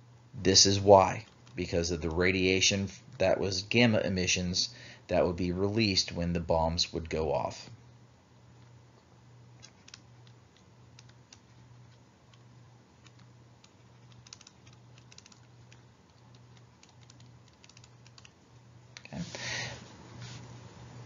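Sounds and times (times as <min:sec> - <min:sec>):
pulsing electrical hum: 0:00.0 - 0:21.0.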